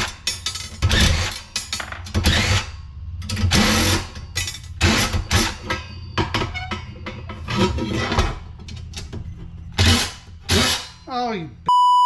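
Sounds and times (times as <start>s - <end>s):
metal parts clanking and rattling: 0.0s - 11.0s.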